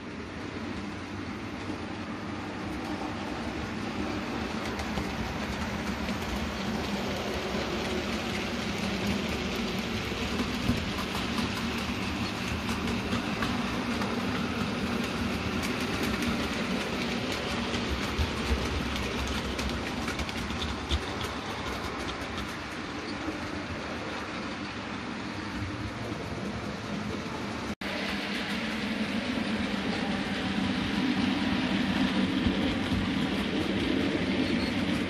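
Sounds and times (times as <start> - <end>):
model train wheels rolling: 0.0 - 35.0
wheels clicking over rail joints: 0.8 - 35.0.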